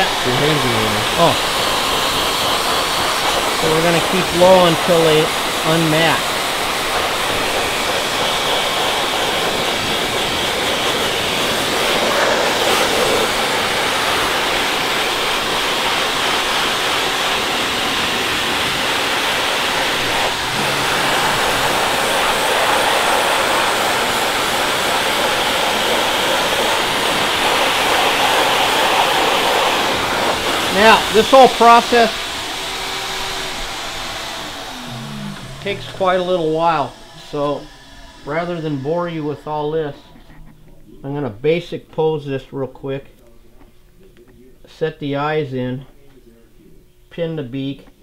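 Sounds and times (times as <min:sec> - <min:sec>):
air blower rushing: 0:00.0 - 0:40.3.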